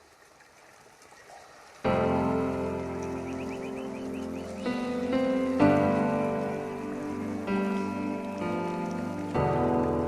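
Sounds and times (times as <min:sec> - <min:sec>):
faint rain-like water hiss: 0:00.0 - 0:10.0
music with held chords: 0:01.9 - 0:10.0.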